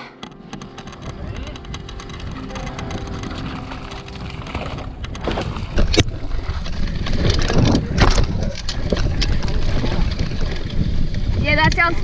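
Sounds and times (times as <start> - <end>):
bike rattling: 0.2 - 12.0
tyres running over dirt: 0.2 - 12.0
wind buffeting microphone: 0.5 - 12.0.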